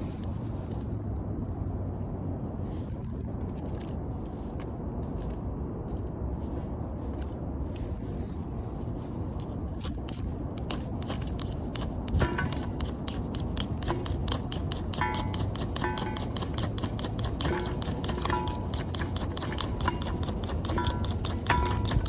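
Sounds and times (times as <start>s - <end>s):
low fire rumble: 0.0s - 22.0s.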